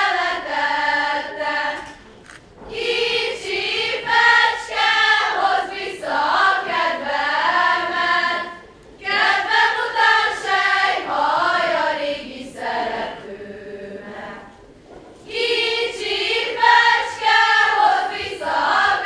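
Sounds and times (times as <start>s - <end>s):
female choir singing: 0.0s - 2.1s, 2.7s - 19.0s.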